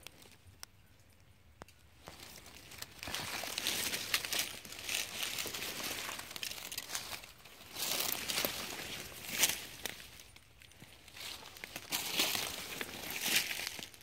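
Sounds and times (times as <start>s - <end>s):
footsteps crunching dry leaves: 2.0s - 14.0s.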